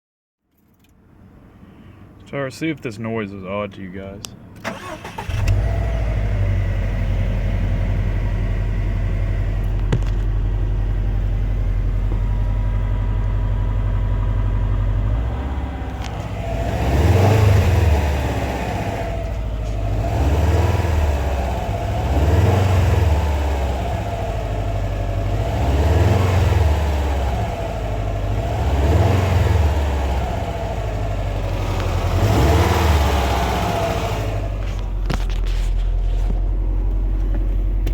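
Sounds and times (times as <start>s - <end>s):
car engine idling and revving: 3.7s - 37.9s.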